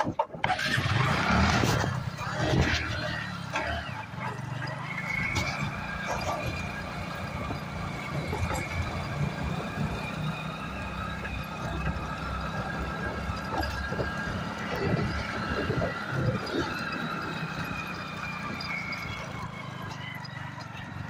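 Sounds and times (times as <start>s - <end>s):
engine whine: 0.0s - 21.0s
muffled motorcycle engine rumble: 0.0s - 21.0s.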